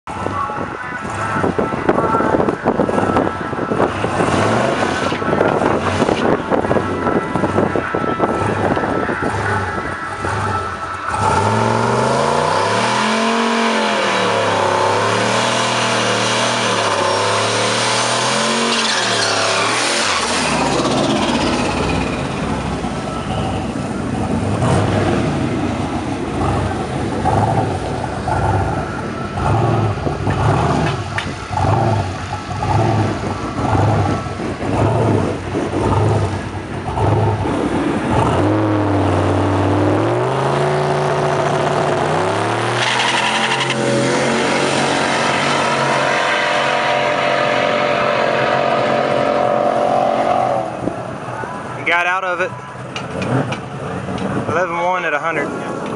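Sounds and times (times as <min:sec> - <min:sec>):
engine pulsing rumble: 0:00.0 - 0:55.9
truck engine revving high: 0:00.1 - 0:55.9.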